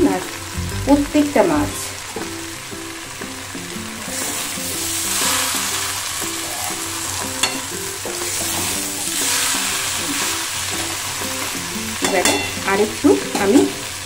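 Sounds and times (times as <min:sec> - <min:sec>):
food sizzling in a pan: 0:00.0 - 0:14.0
soft background tune: 0:00.0 - 0:14.0.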